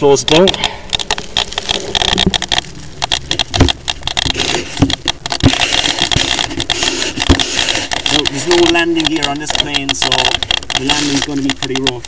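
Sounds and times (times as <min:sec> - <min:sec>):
handling clicks and scrapes: 0:00.0 - 0:12.0.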